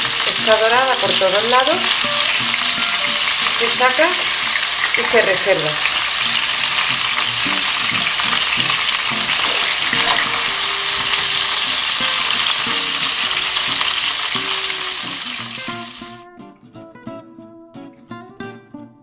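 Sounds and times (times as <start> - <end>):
meat sizzling in frying pan: 0.0 - 16.2.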